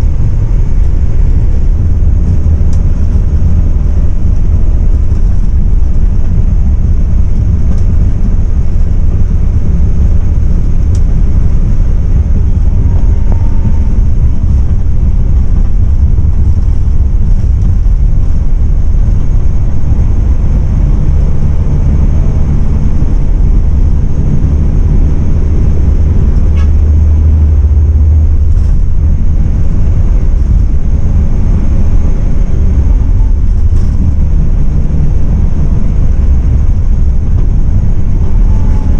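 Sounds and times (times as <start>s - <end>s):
diesel engine drone: 0.0s - 38.9s
tyre and wind noise: 0.0s - 38.9s.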